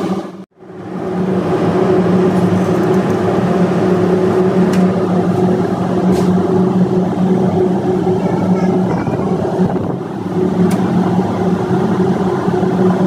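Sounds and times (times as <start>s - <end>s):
diesel machinery drone: 0.0s - 13.0s.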